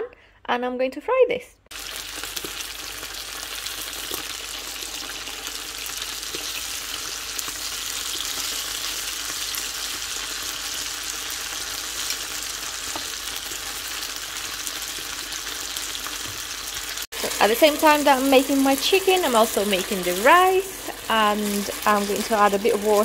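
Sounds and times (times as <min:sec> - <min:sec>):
chicken sizzling in oil: 0:01.7 - 0:23.0.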